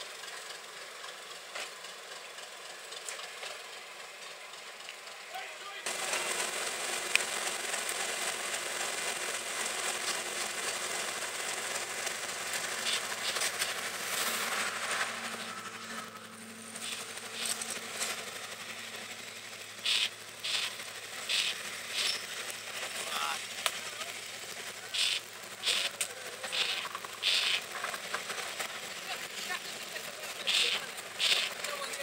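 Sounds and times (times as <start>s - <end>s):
diesel locomotive passing: 0.0s - 32.0s
train coaches rolling past: 0.0s - 32.0s
sharp clatters: 5.9s - 32.0s.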